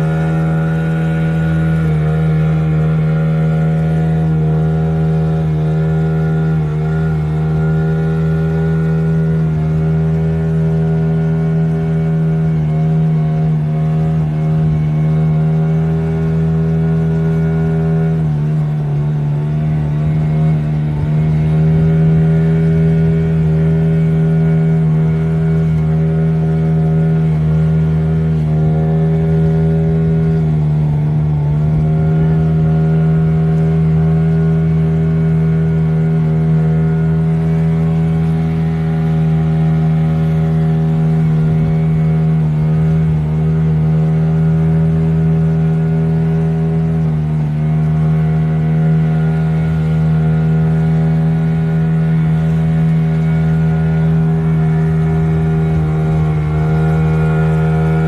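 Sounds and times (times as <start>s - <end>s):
motorboat engine running: 0.0s - 58.0s
rush of boat wake: 0.0s - 58.0s.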